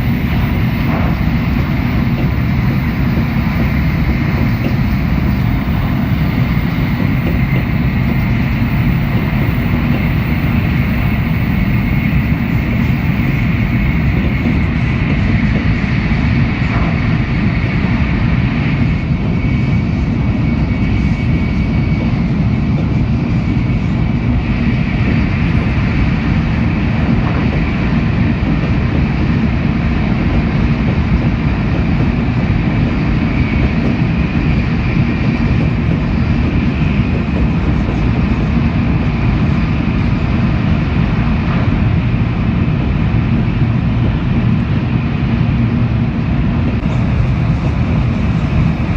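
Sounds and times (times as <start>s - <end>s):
train wheels and air rumble: 0.0s - 48.9s.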